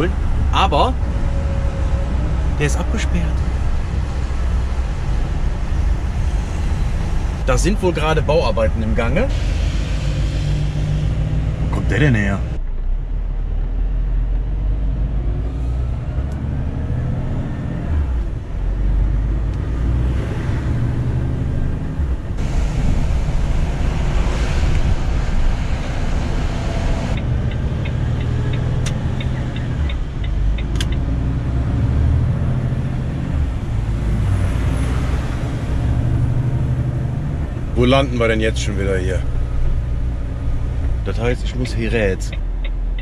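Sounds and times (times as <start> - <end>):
diesel engine: 0.0 - 43.0
tyre and road rush: 0.0 - 43.0.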